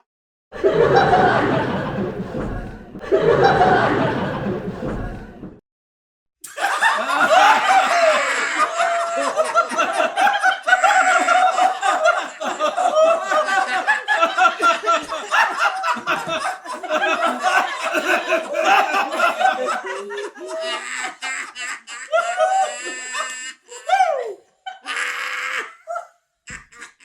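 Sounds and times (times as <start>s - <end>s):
audience laughter: 0.6s - 5.6s, 6.5s - 23.9s.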